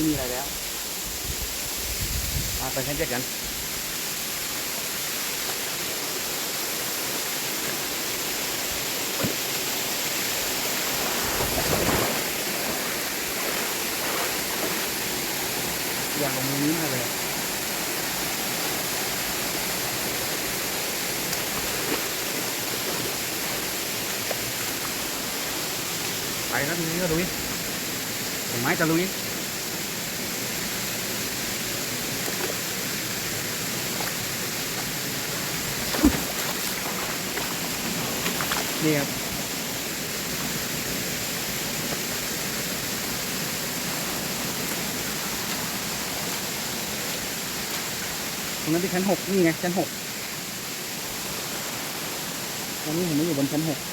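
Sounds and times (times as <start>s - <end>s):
waterfall rushing: 0.0s - 1.8s, 2.6s - 53.9s.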